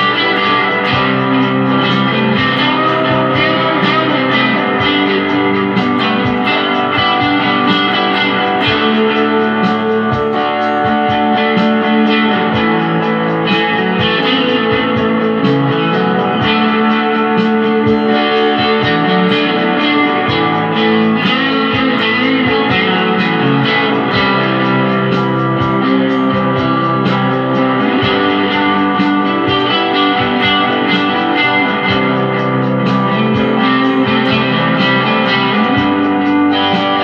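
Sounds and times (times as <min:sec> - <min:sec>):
electric guitar lead with delay: 0:00.0 - 0:37.0
slow rock backing track: 0:00.0 - 0:37.0.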